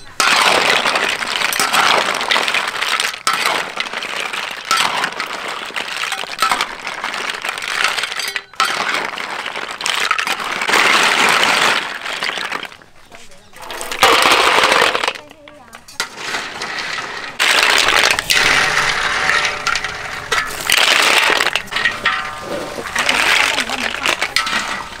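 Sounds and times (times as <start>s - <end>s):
sizzling: 0.0s - 25.0s
snail shells clinking in a wok: 0.0s - 25.0s.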